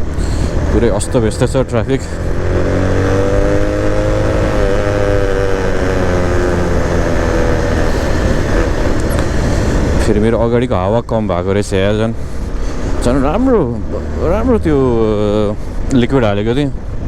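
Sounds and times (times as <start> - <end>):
road and wind rumble: 0.0 - 17.0
vehicle engine running: 0.0 - 17.0.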